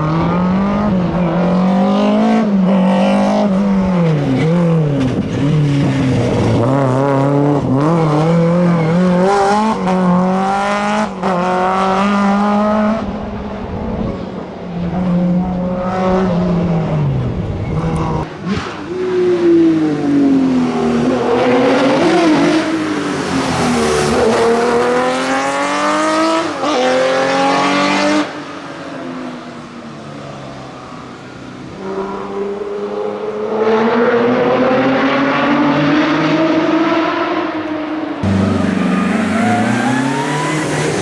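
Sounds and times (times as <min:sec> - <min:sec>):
rally car engines at full throttle: 0:00.0 - 0:41.0.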